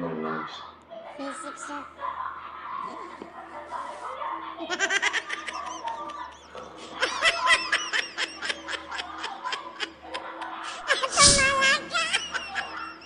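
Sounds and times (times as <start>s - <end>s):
high-pitched giggling: 1.2s - 13.0s.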